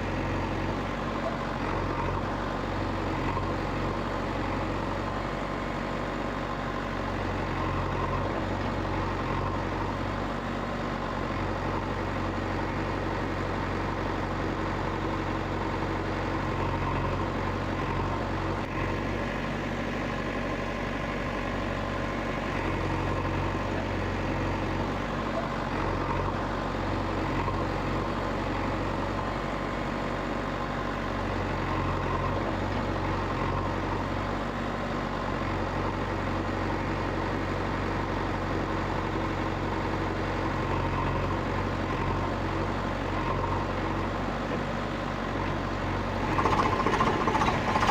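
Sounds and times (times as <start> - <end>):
heavy vehicle engine idling: 0.0 - 47.9.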